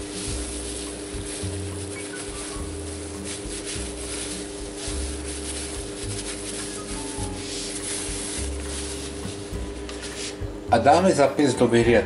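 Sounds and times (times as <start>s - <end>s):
plastic glove rustling on rice: 0.0s - 12.0s.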